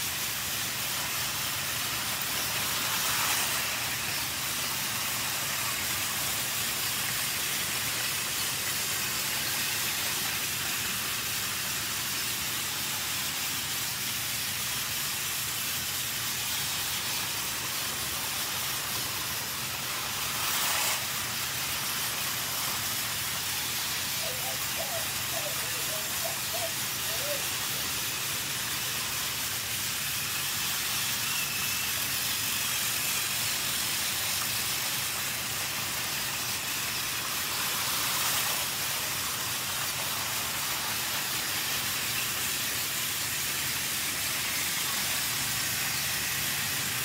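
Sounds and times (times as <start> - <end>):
steady hiss: 0.0 - 47.0
toy train running on plastic track: 0.0 - 47.0.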